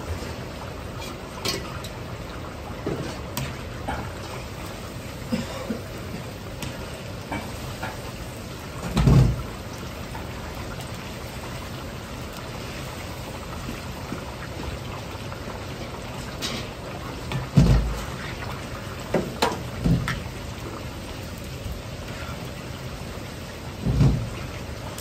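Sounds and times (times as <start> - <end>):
potatoes deep-frying in oil: 0.0 - 25.0.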